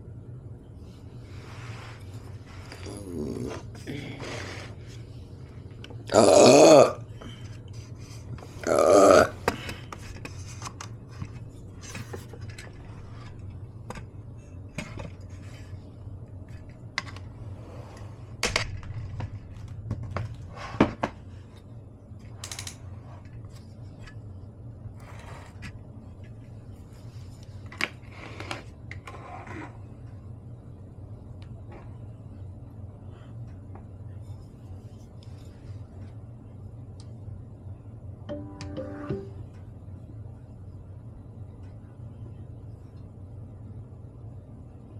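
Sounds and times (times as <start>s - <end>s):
faint steady low hum: 0.0s - 44.9s.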